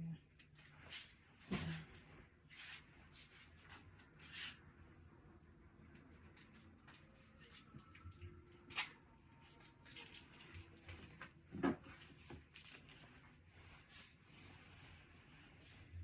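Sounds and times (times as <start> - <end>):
rustling of craft materials: 0.1 - 4.8, 5.4 - 16.0.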